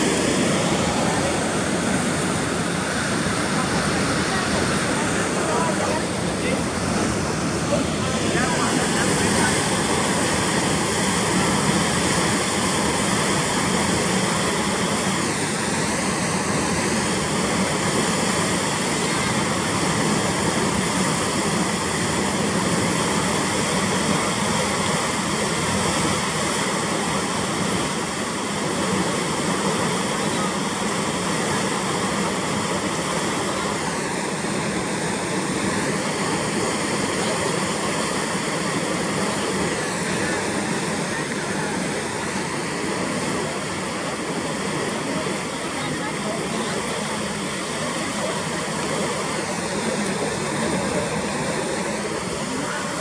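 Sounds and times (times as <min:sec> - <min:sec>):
water rushing and churning: 0:00.0 - 0:53.0.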